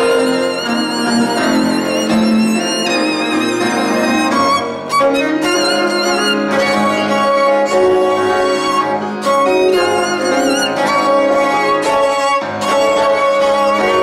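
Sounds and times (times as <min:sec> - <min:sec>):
piano accompaniment: 0:00.0 - 0:14.0
violin melody with vibrato: 0:00.0 - 0:14.0.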